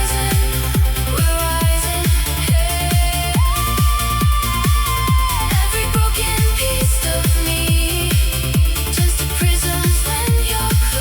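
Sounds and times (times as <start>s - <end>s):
sustained synth bed: 0.0s - 9.0s
deep kick drum: 0.0s - 11.0s.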